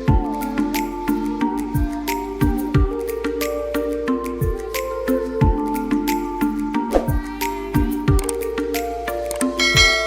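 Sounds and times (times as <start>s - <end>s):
gentle electronic music: 0.0s - 10.0s.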